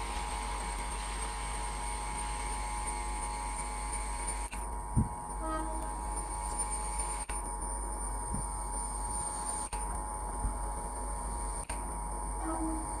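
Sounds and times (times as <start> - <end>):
electric locomotive hum: 0.0 - 13.0.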